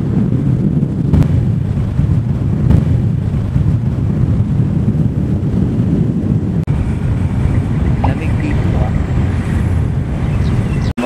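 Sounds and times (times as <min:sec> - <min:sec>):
vehicle rumble: 0:00.0 - 0:11.0
wind buffeting microphone: 0:00.0 - 0:11.0.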